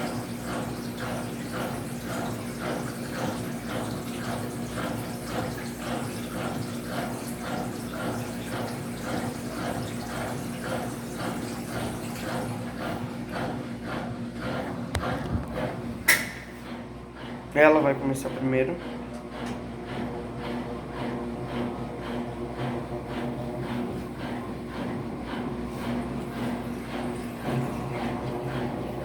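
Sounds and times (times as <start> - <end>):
washing machine water churning: 0.0 - 29.0.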